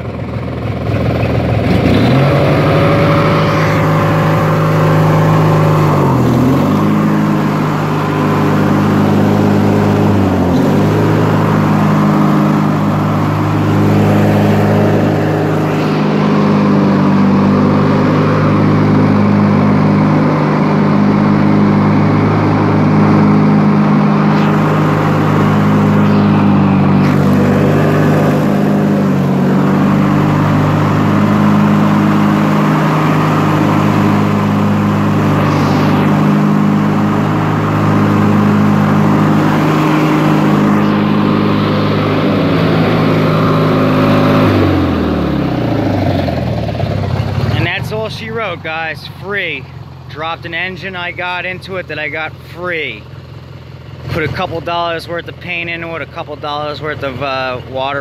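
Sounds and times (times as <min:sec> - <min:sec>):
lawn tractor engine running: 0:00.0 - 0:57.9.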